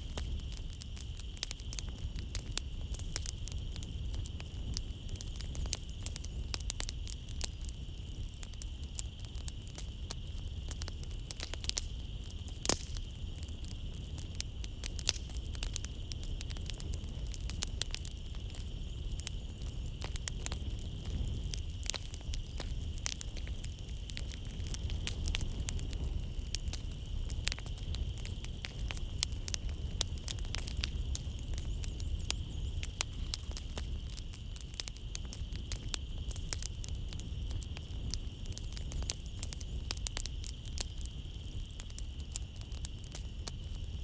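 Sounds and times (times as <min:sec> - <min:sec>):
night insects chirping: 0:00.0 - 0:44.0
wood fire crackling: 0:00.0 - 0:44.0.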